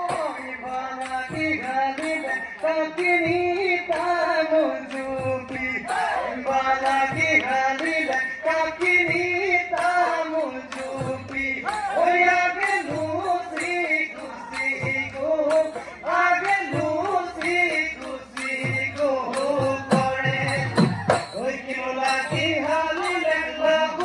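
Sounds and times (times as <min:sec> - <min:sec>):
drums beating: 0:00.0 - 0:24.0
men and women singing: 0:00.0 - 0:24.0.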